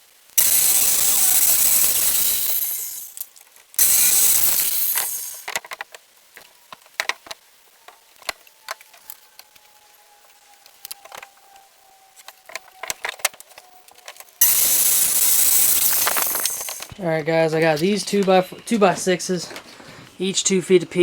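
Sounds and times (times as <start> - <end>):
circular saw cutting wood: 0.4 - 3.2, 3.8 - 5.5, 7.8 - 21.0.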